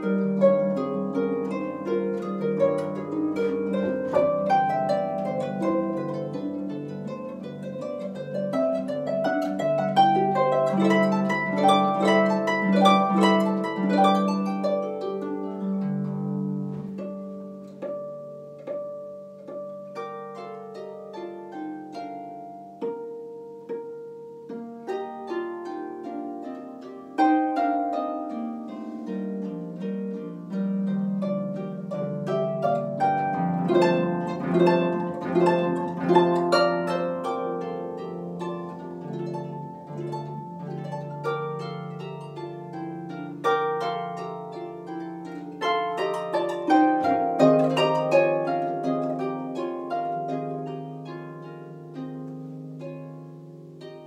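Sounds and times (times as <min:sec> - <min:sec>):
solo harp playing classical piece: 0:00.0 - 0:54.0.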